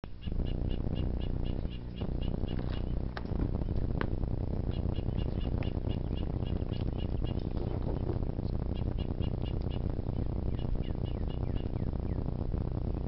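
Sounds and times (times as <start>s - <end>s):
steady low rumble: 0.0s - 13.0s
bird chirping: 0.1s - 3.0s, 4.6s - 12.3s.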